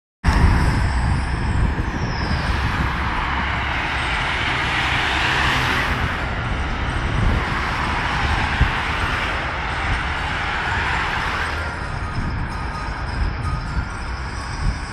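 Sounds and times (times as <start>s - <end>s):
racing car engine and road noise: 0.2s - 14.9s.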